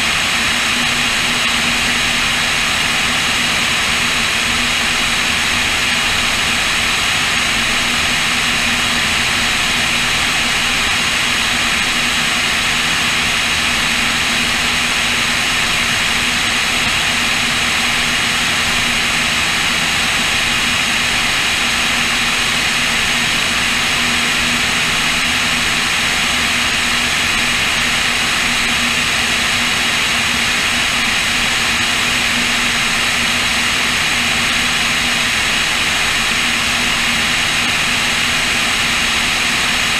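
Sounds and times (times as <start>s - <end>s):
propeller plane engines droning: 0.0s - 39.9s.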